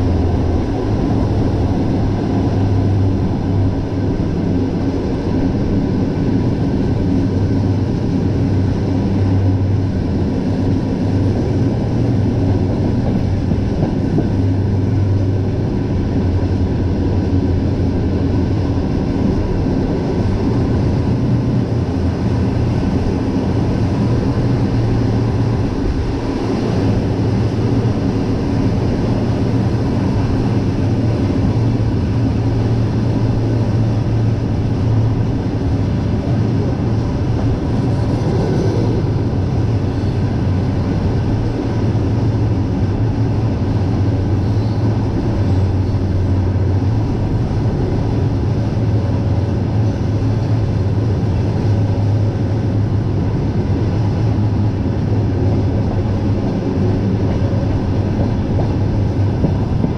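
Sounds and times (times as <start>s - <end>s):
train running rumble: 0.0s - 59.9s.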